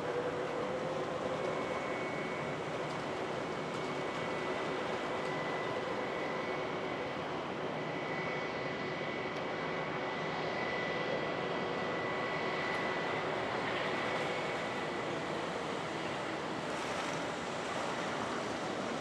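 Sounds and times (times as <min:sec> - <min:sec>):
aircraft turbine engine whine: 0:00.0 - 0:19.0.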